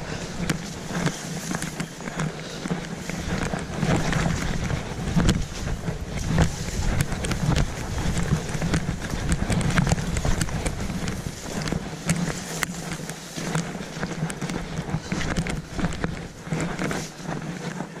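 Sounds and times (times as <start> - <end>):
footsteps trudging through marsh: 0.0 - 18.0
wind on microphone: 0.0 - 18.0.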